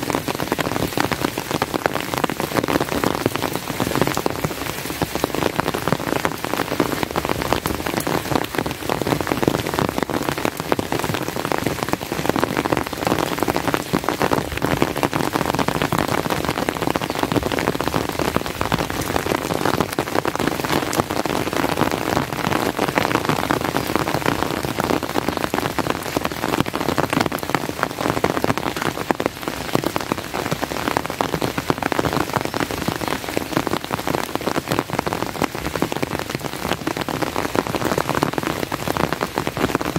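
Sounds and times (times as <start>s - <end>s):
rain falling: 0.0s - 39.9s
raindrops hitting close: 0.0s - 39.9s.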